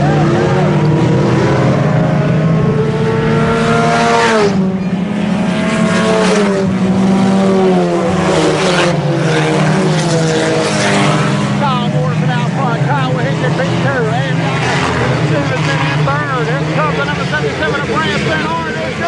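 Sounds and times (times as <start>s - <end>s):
race car engines passing by: 0.0s - 19.0s.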